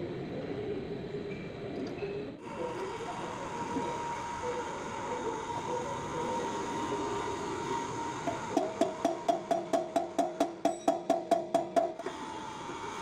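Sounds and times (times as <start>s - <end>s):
workshop machinery whining: 2.4s - 13.0s.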